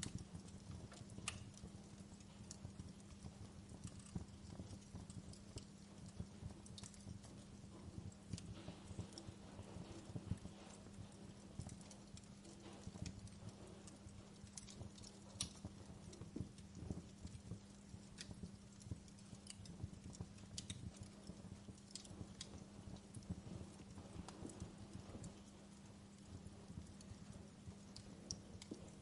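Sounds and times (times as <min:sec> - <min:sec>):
faint steady hum: 0:00.0 - 0:29.0
firewood crackling and popping: 0:00.0 - 0:29.0
low flame rumble: 0:00.0 - 0:29.0.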